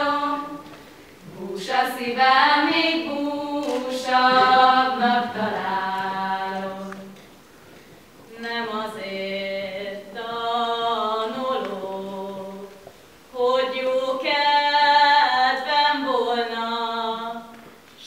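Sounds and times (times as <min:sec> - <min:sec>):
women singing a cappella: 0:00.0 - 0:07.2, 0:08.2 - 0:18.0.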